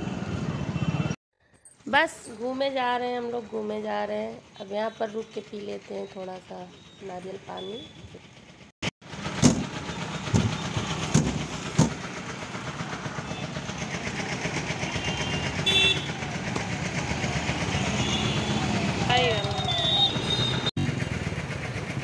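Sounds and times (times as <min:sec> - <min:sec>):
road traffic: 0:00.0 - 0:01.2, 0:01.8 - 0:22.0.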